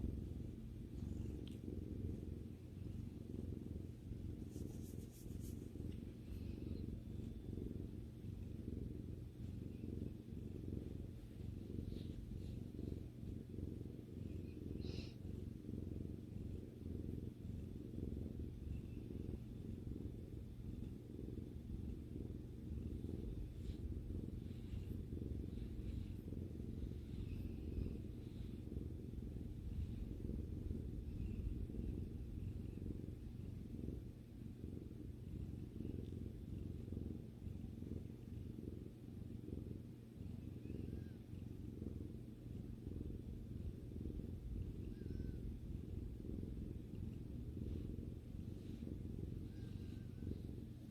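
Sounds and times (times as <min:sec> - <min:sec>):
cat purring: 0:00.0 - 0:50.9.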